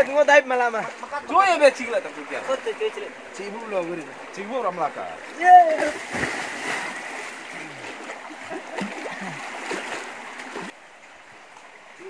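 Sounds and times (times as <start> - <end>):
brook water running: 0.0 - 12.0
water splashes: 0.0 - 12.0.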